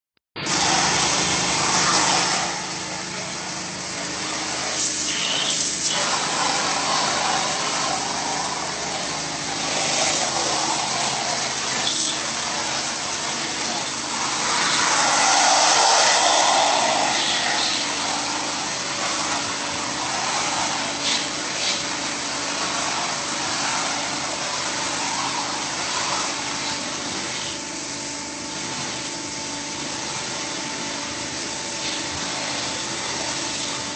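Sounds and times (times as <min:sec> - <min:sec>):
high-pressure water spray hiss: 0:00.4 - 0:33.9
pressure washer pump hum: 0:00.4 - 0:33.9.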